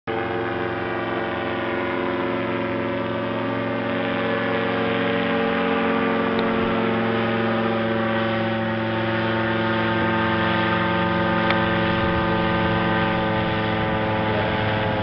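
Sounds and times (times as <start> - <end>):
paramotor engine running: 0.1 - 15.0.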